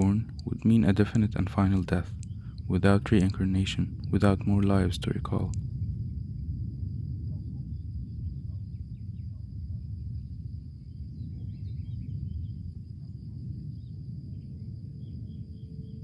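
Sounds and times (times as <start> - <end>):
faint chirps: 0.0 - 6.2, 7.2 - 16.0
high insect drone: 0.0 - 16.0
low rumble: 0.0 - 16.0.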